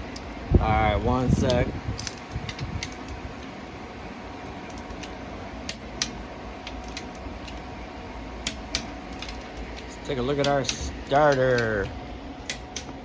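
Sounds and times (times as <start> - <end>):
workshop background hum: 0.0 - 13.0.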